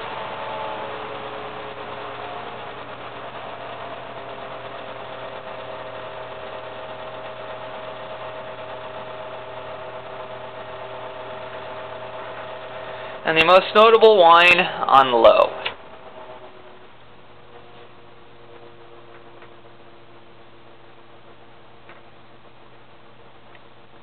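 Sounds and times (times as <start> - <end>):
electric fan whining: 0.0 - 24.0.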